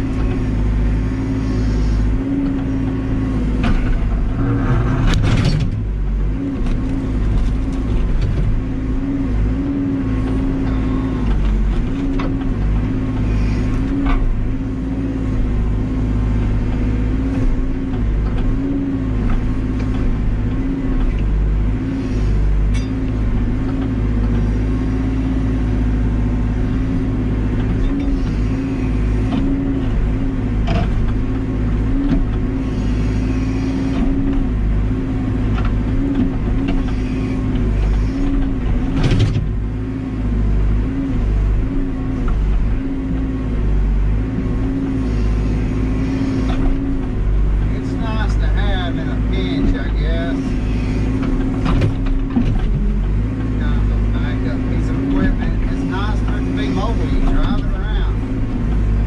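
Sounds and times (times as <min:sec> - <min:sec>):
diesel engine and hydraulics: 0:00.0 - 0:59.0.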